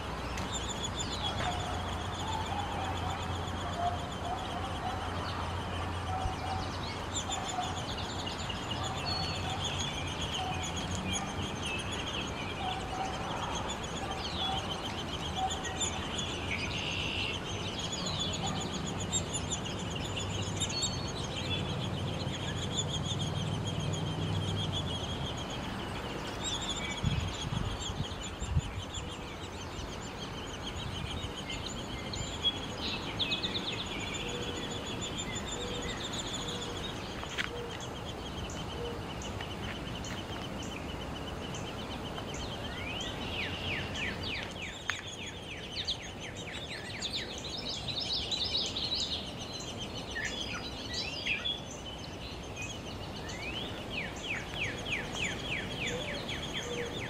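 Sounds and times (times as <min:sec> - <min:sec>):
nestlings chattering: 0:00.0 - 0:57.0.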